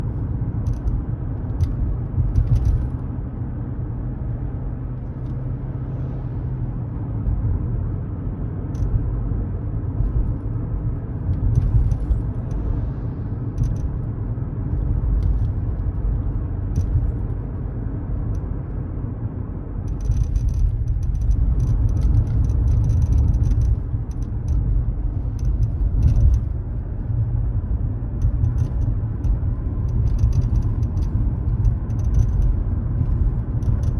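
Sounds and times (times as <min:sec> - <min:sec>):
road rumble inside car: 0:00.0 - 0:33.9.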